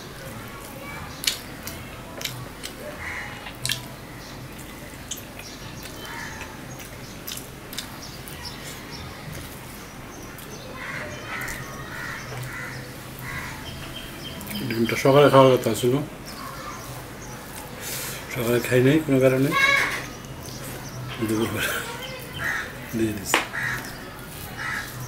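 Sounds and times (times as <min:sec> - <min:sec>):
man chewing food: 0:00.1 - 0:14.8, 0:16.2 - 0:18.6, 0:20.0 - 0:25.0.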